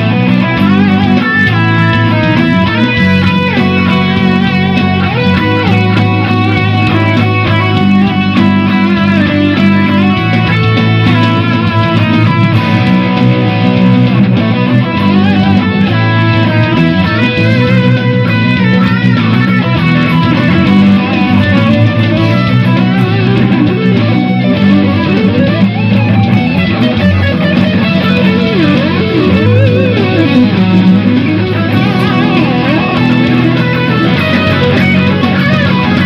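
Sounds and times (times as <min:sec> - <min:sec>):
bass notes: 0:00.0 - 0:36.0
electric guitar lead: 0:00.0 - 0:36.0.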